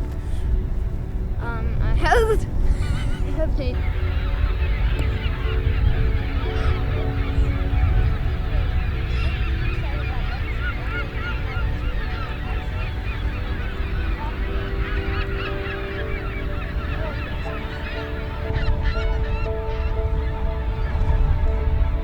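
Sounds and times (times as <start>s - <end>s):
birds honking at a colony: 0.0s - 22.0s
wind rumbling on microphone: 0.0s - 22.0s.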